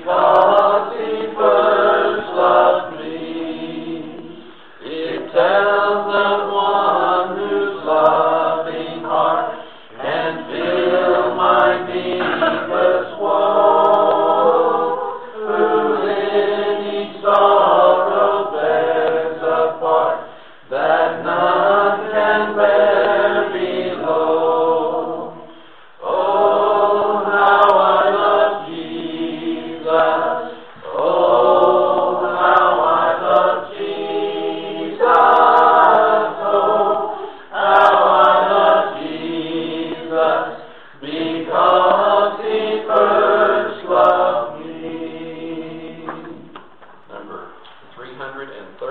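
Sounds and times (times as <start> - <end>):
voices singing a hymn: 0.0 - 47.5.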